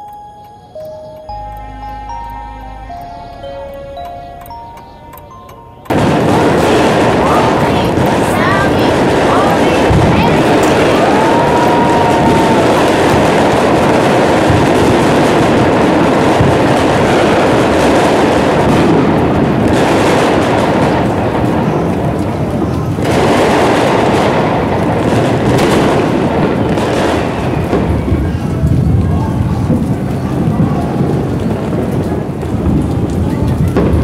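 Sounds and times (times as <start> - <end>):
fireworks bangs and crackles: 5.9 - 34.0.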